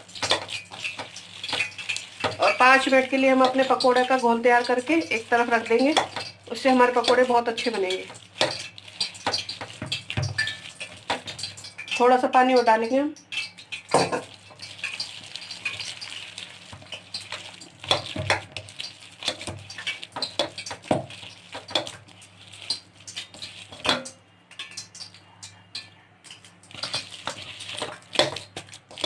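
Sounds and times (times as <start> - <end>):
batter mixed in a bowl: 0.0 - 29.0.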